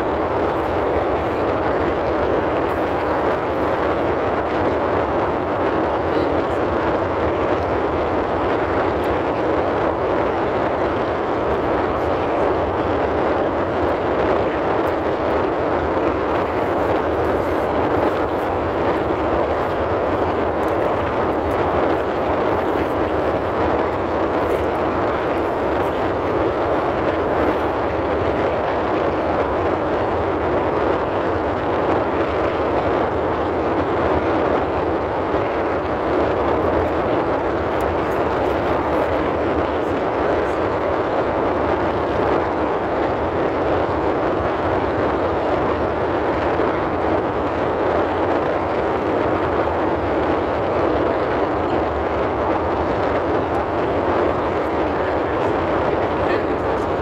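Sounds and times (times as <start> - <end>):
car ventilation fan blowing: 0.0 - 57.0.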